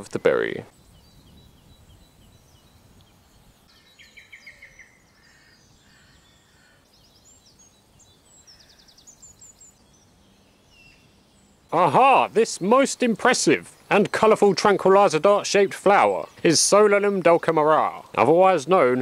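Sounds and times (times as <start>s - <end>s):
faint steady hiss: 0.0s - 19.0s
songbird chirps and trills: 0.0s - 19.0s.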